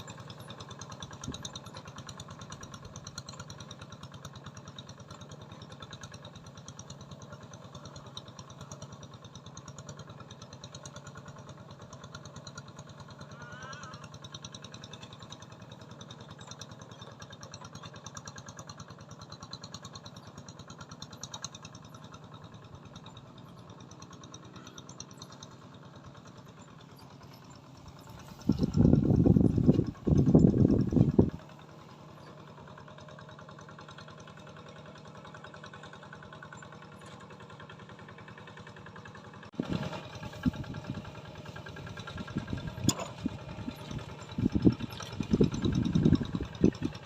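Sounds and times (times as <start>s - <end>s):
small engine idling: 0.0s - 47.0s.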